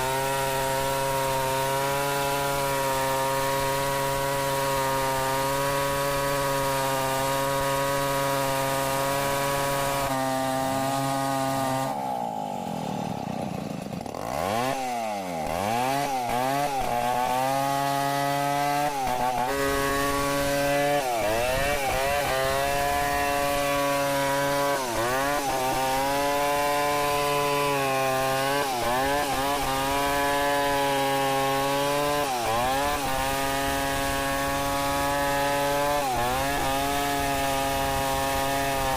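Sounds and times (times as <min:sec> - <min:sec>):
chainsaw ripping a log: 0:00.0 - 0:38.9.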